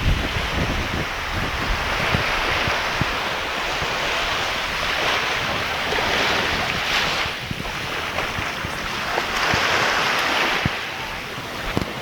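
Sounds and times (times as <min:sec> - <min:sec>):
sea water rushing: 0:00.0 - 0:12.0
wind buffeting microphone: 0:00.0 - 0:12.0.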